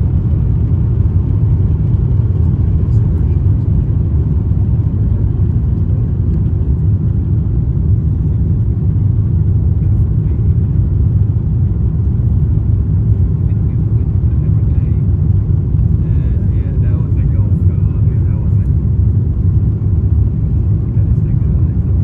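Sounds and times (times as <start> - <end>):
jet engines deep rumble: 0.0 - 22.0.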